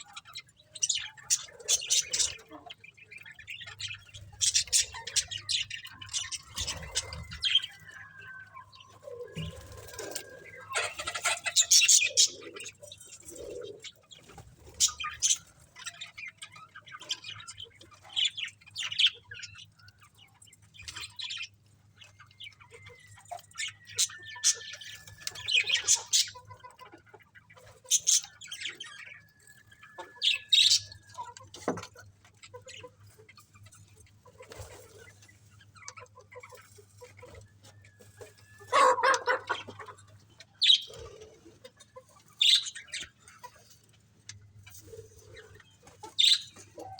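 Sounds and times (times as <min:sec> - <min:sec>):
budgerigars chirping and chattering: 0:00.0 - 0:46.9.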